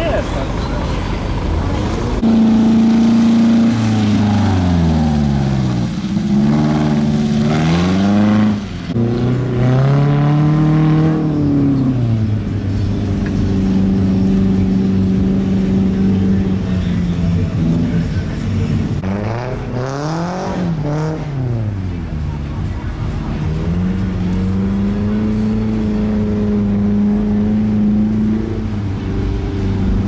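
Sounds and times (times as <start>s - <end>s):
car engine revving: 0.3s - 30.0s.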